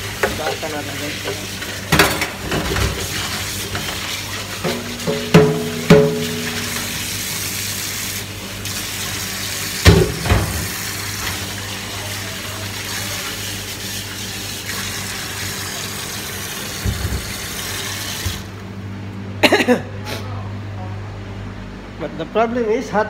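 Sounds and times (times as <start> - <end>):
water running from a tap: 0.0 - 18.6.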